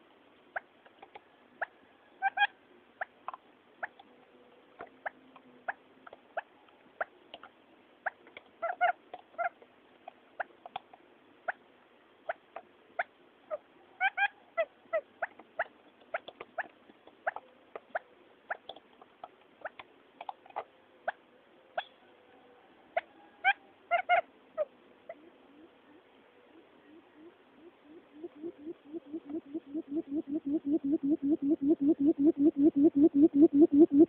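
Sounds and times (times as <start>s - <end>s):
quail chirping calls: 0.5s - 22.0s, 22.9s - 34.0s.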